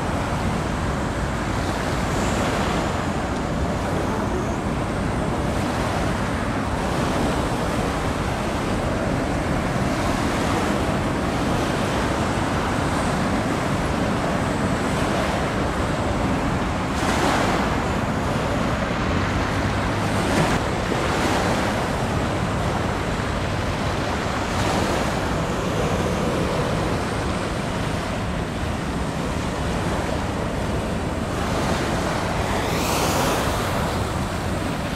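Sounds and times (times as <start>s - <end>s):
sea water splashing: 0.0s - 34.9s
wind blowing over microphone: 0.0s - 34.9s.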